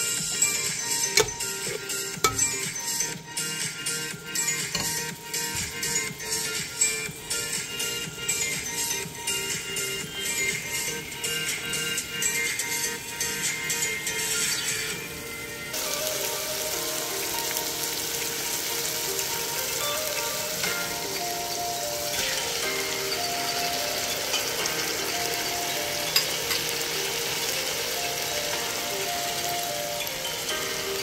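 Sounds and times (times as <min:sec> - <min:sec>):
meat and onions sizzling in oil: 0:00.0 - 0:31.0
soft background music: 0:00.0 - 0:31.0.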